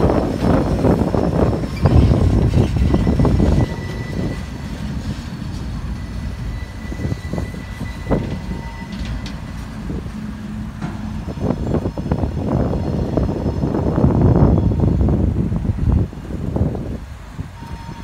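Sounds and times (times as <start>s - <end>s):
freight train rumble: 0.0s - 18.0s.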